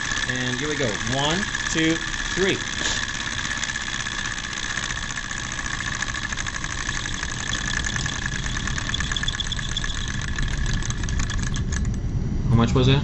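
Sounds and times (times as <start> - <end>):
engine mechanical clatter: 0.0 - 12.0.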